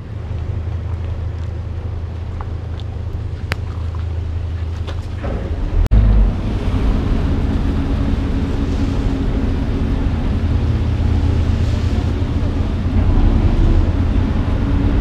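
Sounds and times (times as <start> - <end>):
boat engine running: 0.0 - 15.0
propeller churning water: 0.0 - 15.0.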